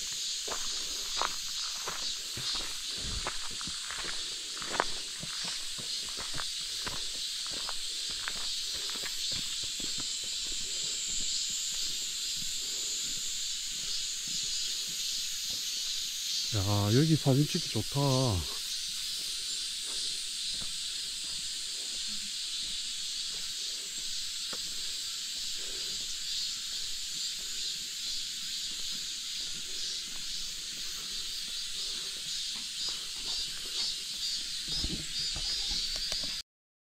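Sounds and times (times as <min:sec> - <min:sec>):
high-pitched insect chorus: 0:00.0 - 0:36.4.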